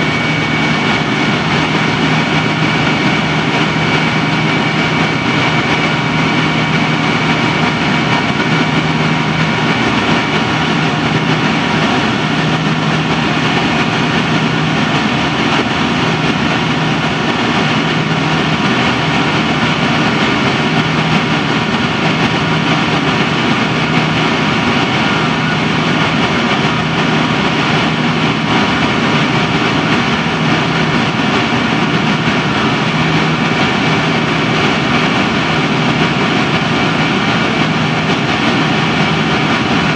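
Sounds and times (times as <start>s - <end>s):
drone of jet engines: 0.0s - 39.9s
low hum: 0.0s - 39.9s
rushing air in aircraft cabin: 0.0s - 39.9s.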